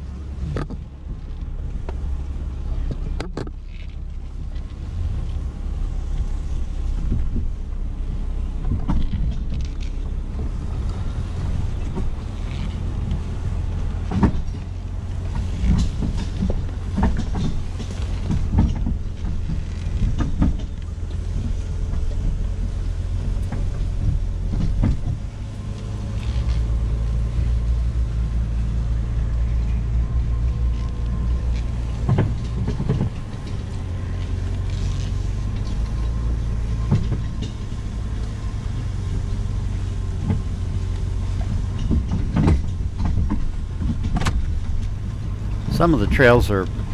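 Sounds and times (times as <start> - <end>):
car engine running under load: 0.0 - 46.9
vehicle knocks and clunks: 0.2 - 46.9.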